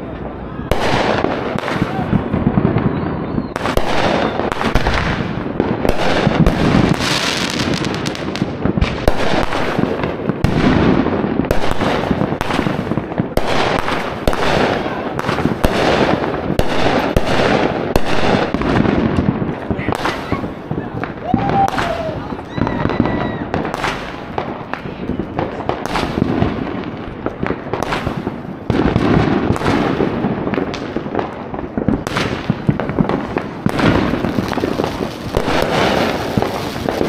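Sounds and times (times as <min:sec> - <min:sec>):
fireworks bangs and pops: 0:00.0 - 0:37.0.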